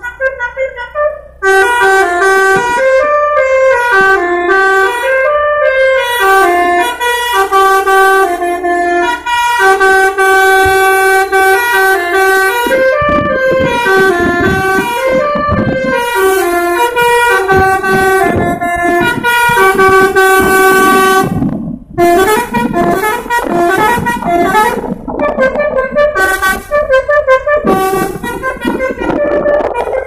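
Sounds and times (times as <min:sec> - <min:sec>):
multi-tone bus horn melody: 0:00.0 - 0:30.0.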